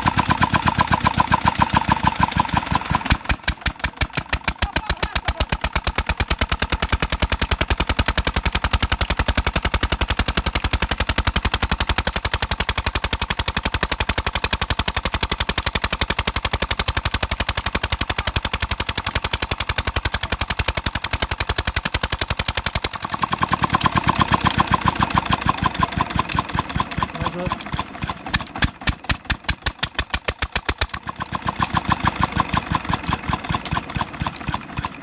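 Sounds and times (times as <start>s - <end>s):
diesel engine chugging: 0.0s - 35.0s.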